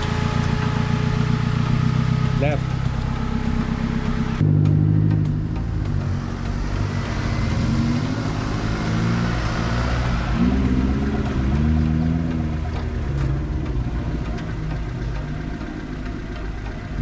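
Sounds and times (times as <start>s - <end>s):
engine revving under load: 0.0s - 17.0s.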